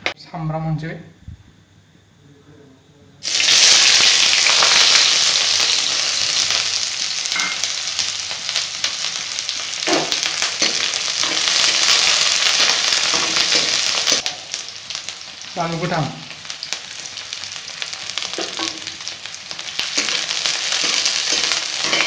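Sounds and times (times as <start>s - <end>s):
onion sizzling in hot oil: 3.2s - 22.0s.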